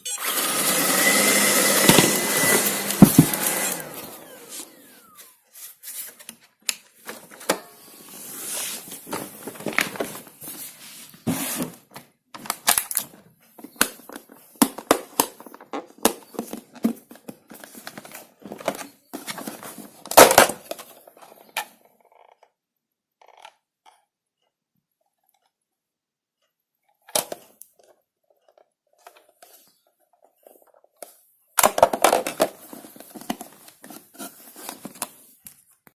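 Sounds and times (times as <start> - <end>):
objects being handled: 1.4 - 21.6, 27.3 - 35.9.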